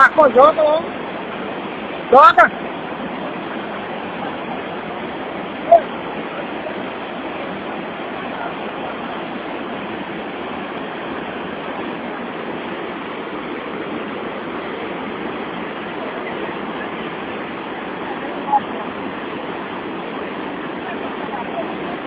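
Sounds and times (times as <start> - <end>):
river rapids roaring: 0.0 - 22.0.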